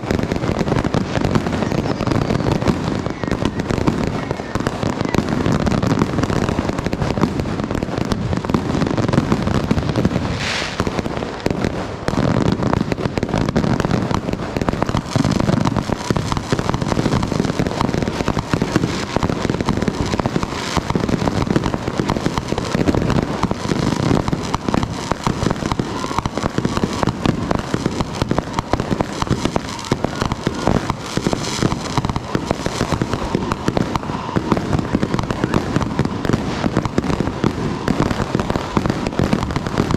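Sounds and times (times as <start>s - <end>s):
firecrackers popping and crackling: 0.0s - 39.9s
high-pitched firework burst: 0.0s - 39.9s.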